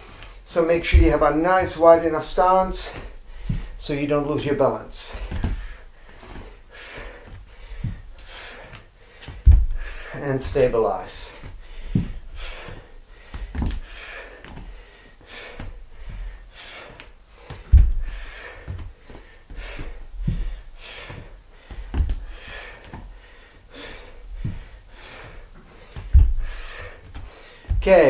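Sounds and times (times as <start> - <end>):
man breathing hard: 0.0 - 3.9, 4.6 - 28.0
bare feet thudding on wooden floor: 0.8 - 23.2, 23.8 - 28.0.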